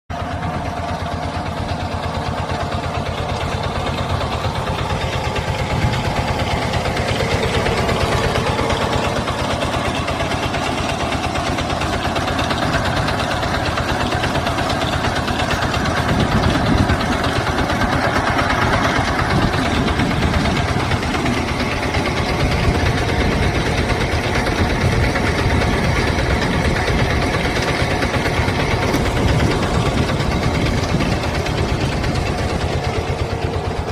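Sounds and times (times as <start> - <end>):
drilling rig engine pulsing: 0.1 - 33.9.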